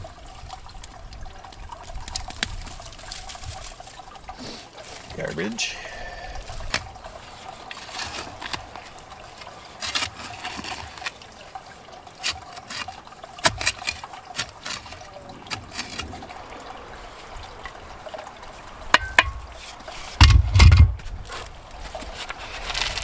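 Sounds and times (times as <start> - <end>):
trickle of garden waterfall: 0.0 - 23.0.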